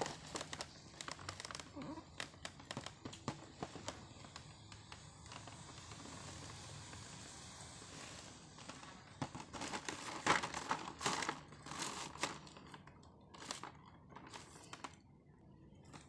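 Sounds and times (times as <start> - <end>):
plastic packaging crinkling: 0.0 - 6.3, 8.1 - 15.0.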